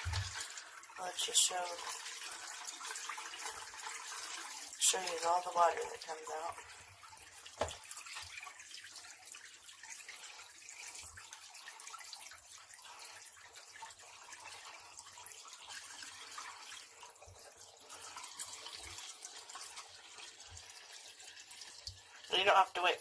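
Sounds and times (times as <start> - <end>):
water draining from a hose: 0.0 - 23.0.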